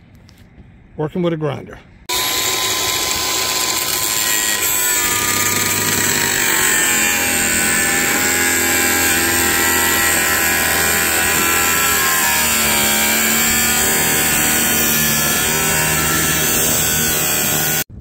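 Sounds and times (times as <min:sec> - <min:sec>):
angle grinder motor whine: 0:02.1 - 0:17.9.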